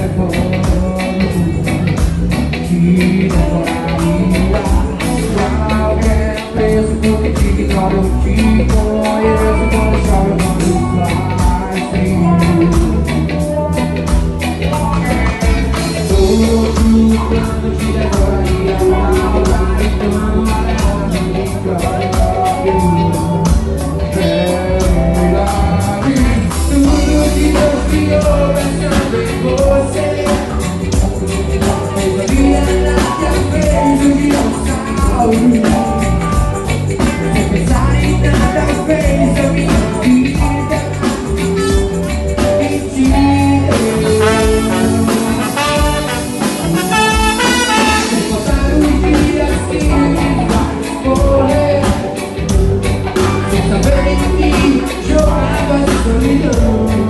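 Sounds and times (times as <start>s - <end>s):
fast percussion beat: 0.0s - 57.0s
live band music: 0.0s - 57.0s
person singing: 0.0s - 57.0s.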